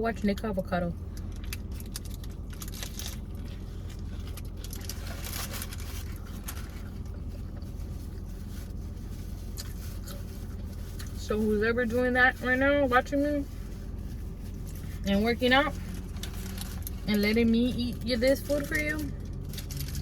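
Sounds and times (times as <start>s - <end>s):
car cabin hum: 0.0s - 20.0s
chewing and crunching: 1.1s - 11.2s, 13.5s - 15.1s, 15.7s - 20.0s
food packaging rustling: 1.3s - 11.2s, 13.0s - 20.0s.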